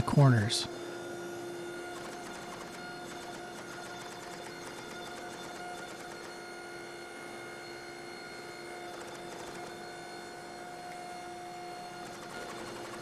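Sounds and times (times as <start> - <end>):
hydraulic press humming: 0.0 - 13.0.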